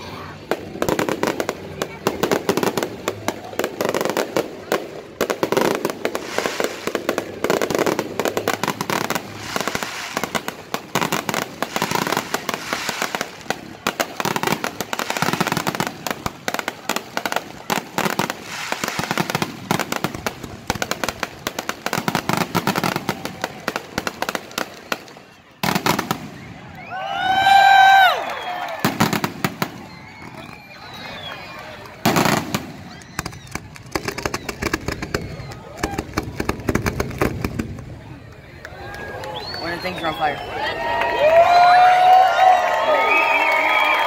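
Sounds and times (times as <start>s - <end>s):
fireworks bangs and pops: 0.2s - 26.7s, 28.7s - 38.2s.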